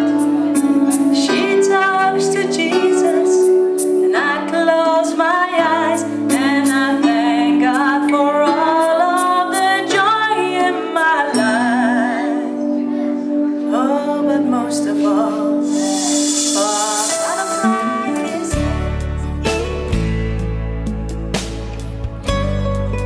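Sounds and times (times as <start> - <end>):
woman singing with vibrato: 0.0 - 19.2
sustained musical accompaniment: 0.0 - 23.0.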